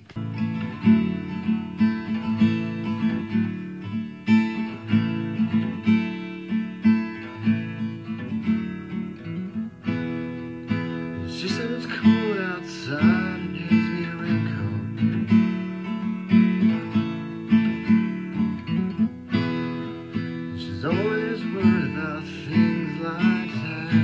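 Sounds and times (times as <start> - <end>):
fingerpicked acoustic guitar: 0.0 - 24.0.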